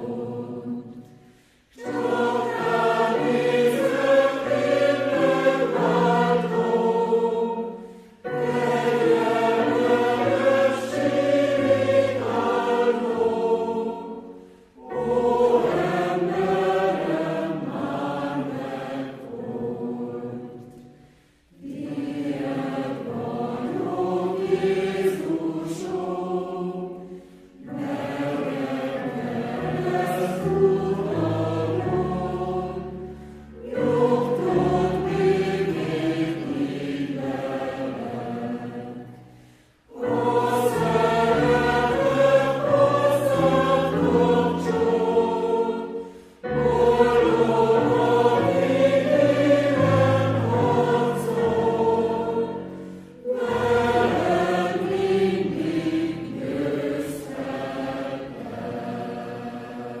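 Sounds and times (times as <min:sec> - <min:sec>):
choir singing a hymn: 0:00.0 - 1:00.0.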